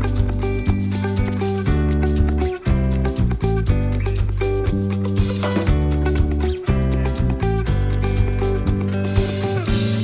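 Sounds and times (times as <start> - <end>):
guitar and bass music with beat: 0.0 - 10.0.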